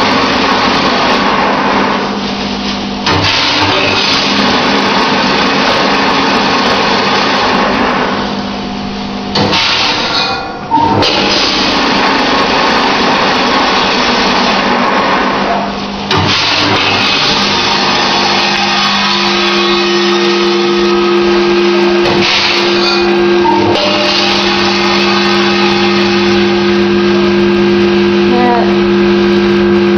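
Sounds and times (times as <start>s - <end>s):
packing machine hum and hiss: 0.0s - 29.9s.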